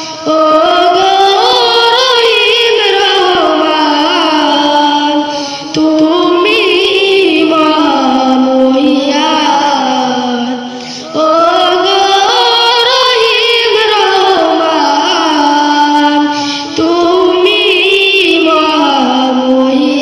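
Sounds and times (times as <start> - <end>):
boy singing into microphone: 0.0 - 20.0.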